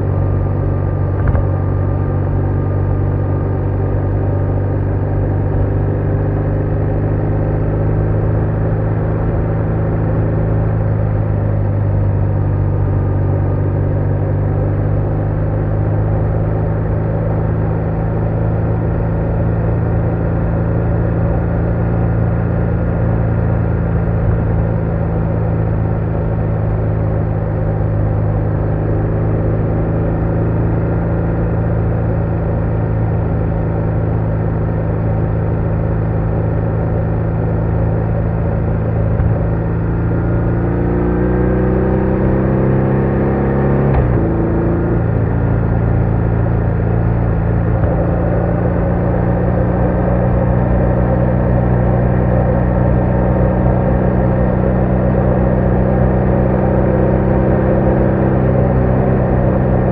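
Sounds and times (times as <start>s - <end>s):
motorcycle engine drone: 0.0s - 59.9s.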